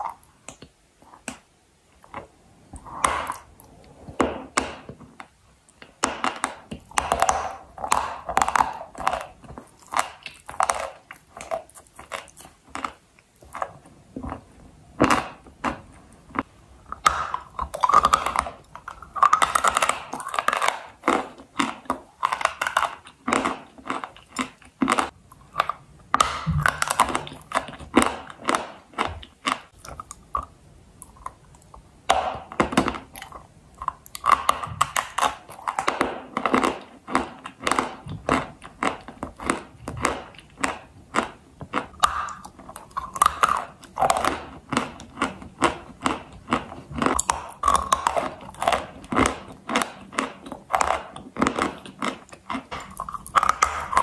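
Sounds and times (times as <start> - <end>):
chewing crunchy clay: 5.8 - 54.0.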